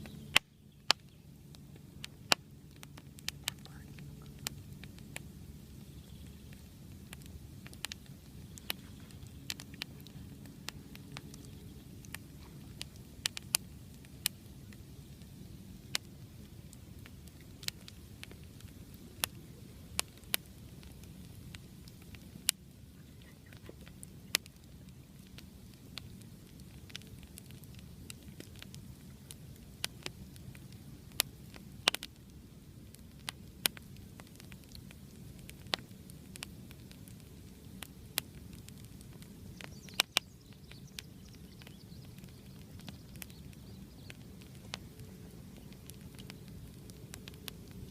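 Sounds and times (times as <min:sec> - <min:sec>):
campfire crackling and popping: 0:00.0 - 0:47.9
low steady rumble: 0:00.0 - 0:47.9.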